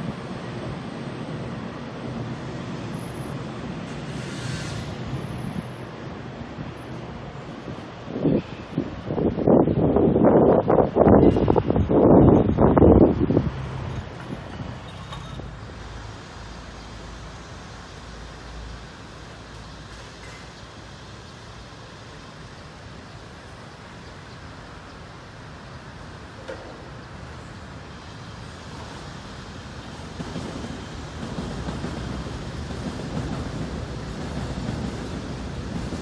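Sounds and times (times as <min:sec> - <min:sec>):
city traffic hum: 0:00.0 - 0:36.0
distant electric train rumble: 0:00.0 - 0:36.0.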